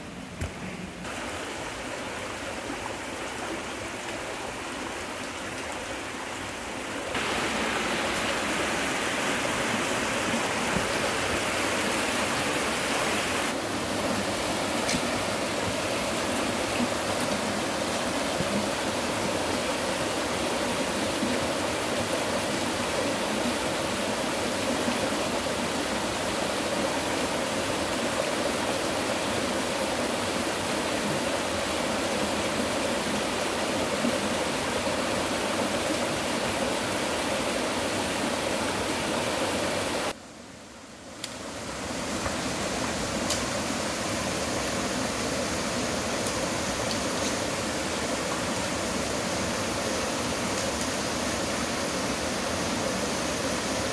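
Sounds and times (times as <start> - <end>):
stream rushing: 0.0 - 53.9.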